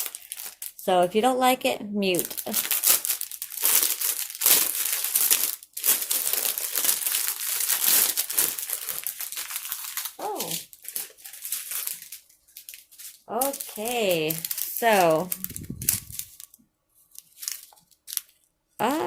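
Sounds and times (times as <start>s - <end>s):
plastic packets crinkling: 0.0s - 1.1s, 2.1s - 19.0s.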